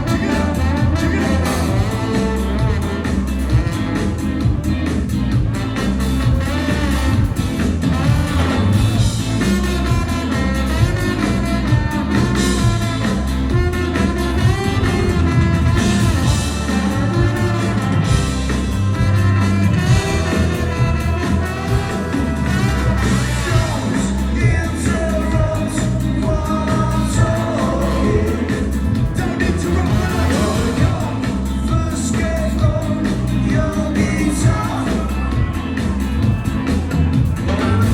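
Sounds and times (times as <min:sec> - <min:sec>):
live ska punk band playing: 0:00.0 - 0:37.9.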